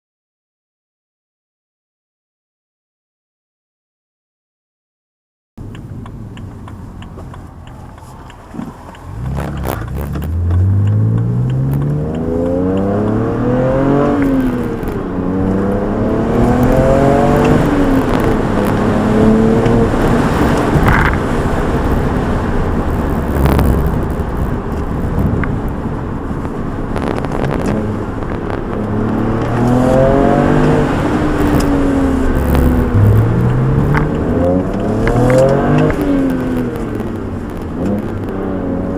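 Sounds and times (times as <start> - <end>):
car engine accelerating: 5.6 - 38.9.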